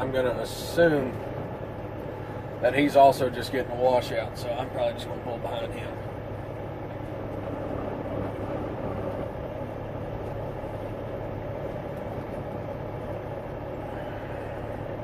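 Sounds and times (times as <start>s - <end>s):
diesel engine running at low revs: 0.0s - 15.0s.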